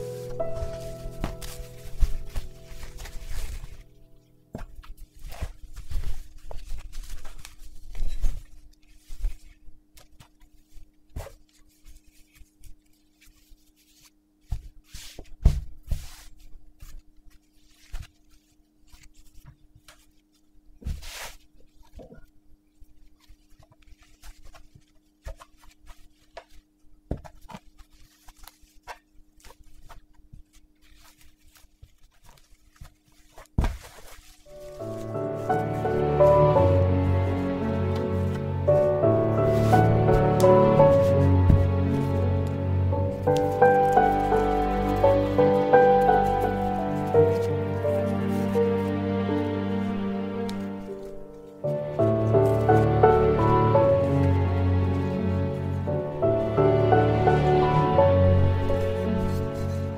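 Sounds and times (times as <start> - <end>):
fabric rustling and brushing: 0.0 - 59.9.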